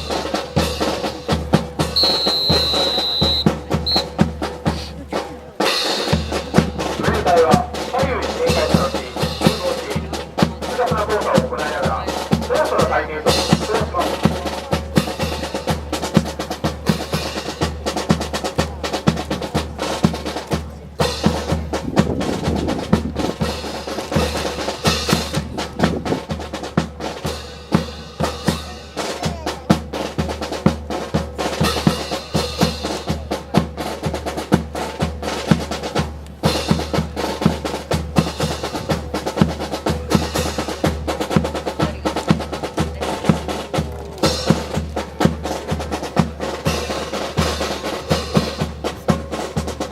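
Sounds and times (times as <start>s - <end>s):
snare drum strikes and rolls: 0.0s - 4.9s, 5.6s - 49.9s
bass drum beats: 0.0s - 49.9s.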